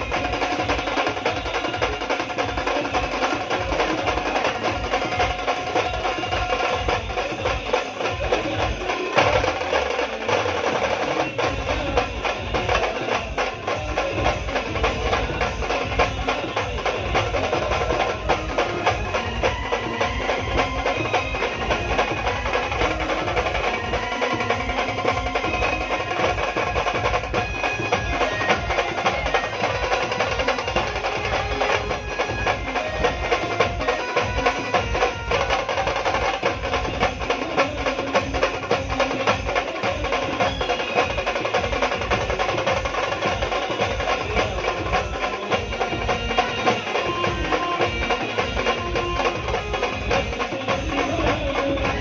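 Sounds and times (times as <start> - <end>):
fast dense drumming: 0.0 - 52.0
live band playing folk song: 0.0 - 52.0.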